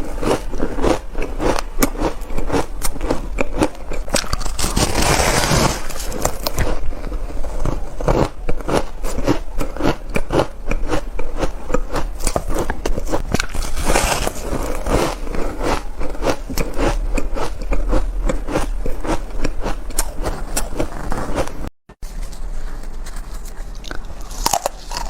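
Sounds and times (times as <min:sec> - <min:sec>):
ice being chewed: 0:00.0 - 0:21.6, 0:22.2 - 0:25.0.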